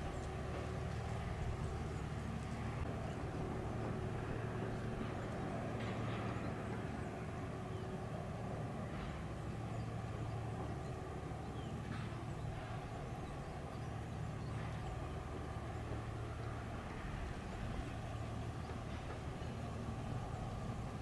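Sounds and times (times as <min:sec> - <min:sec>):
low machinery hum: 0:00.0 - 0:21.0.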